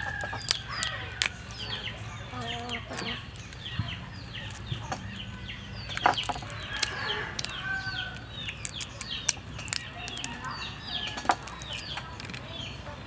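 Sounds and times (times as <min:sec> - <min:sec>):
clicks of shell peeling: 0:00.0 - 0:12.5
prawn shell cracking: 0:00.0 - 0:12.5
chickens clucking: 0:00.0 - 0:13.0.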